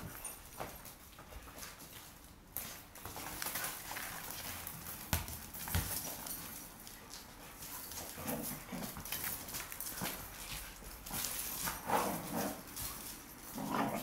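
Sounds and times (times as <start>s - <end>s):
dog paws scrabbling on tiles: 0.0s - 14.0s.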